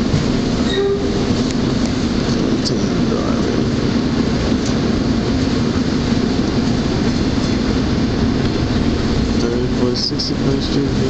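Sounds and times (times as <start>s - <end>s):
constant low hum: 0.0s - 11.0s
trolley wheels rumbling on rails: 0.0s - 11.0s.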